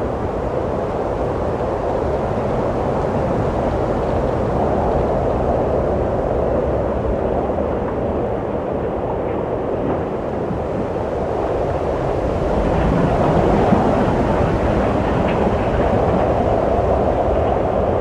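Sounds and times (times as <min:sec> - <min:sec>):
low rushing wind: 0:00.0 - 0:18.0.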